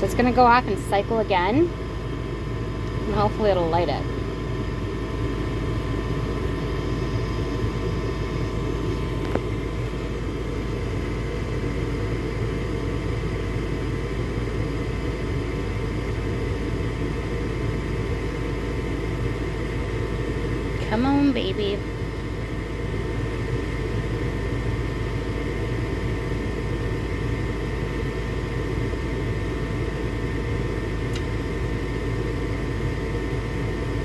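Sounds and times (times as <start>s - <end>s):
furnace fan motor humming: 0.0s - 34.0s.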